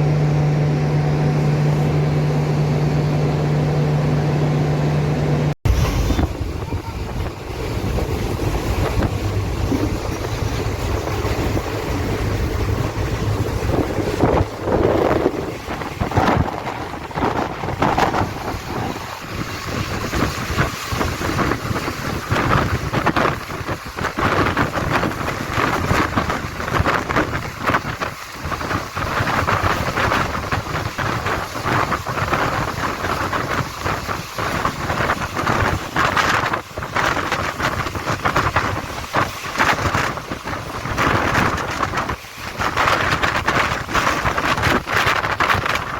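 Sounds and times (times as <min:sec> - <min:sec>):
train rumbling on track: 0:00.0 - 0:45.9
wind buffeting microphone: 0:00.0 - 0:45.9
wheels clattering on rails: 0:05.7 - 0:45.9.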